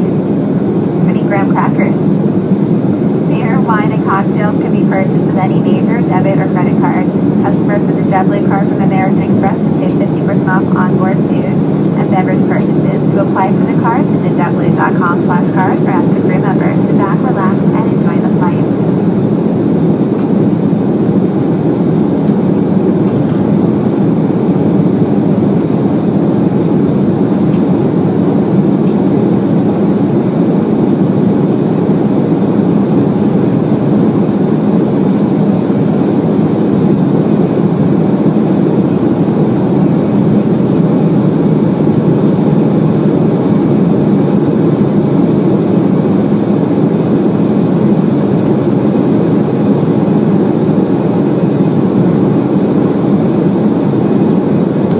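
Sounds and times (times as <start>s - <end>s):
airliner cabin roar: 0.0s - 54.9s.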